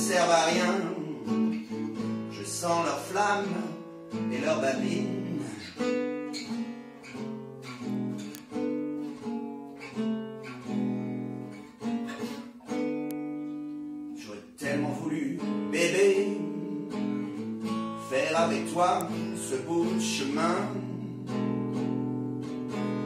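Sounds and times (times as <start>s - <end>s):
acoustic guitar blues chords: 0.0s - 23.0s.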